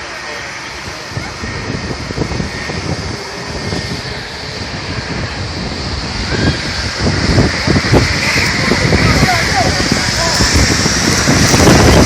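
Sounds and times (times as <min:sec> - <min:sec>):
jet blast buffeting microphone: 0:00.0 - 0:12.0
jet engines spooling up: 0:00.0 - 0:12.0.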